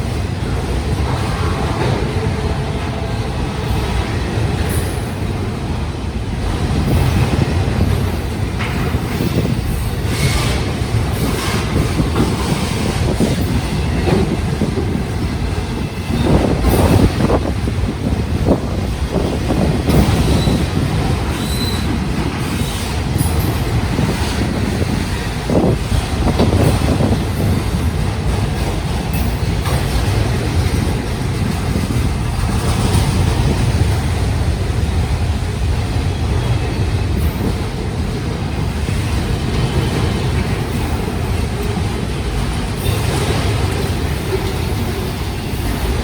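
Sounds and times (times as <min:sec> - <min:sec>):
train cars clicking and knocking: 0:00.0 - 0:46.0
train wheels rumbling on rail: 0:00.0 - 0:46.0.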